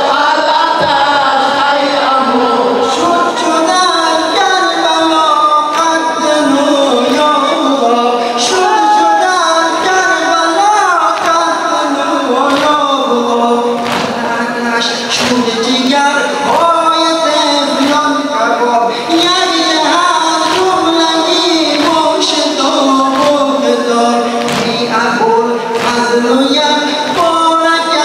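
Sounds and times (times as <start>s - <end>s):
man singing into a microphone: 0.0s - 28.0s
men singing along: 0.0s - 28.0s.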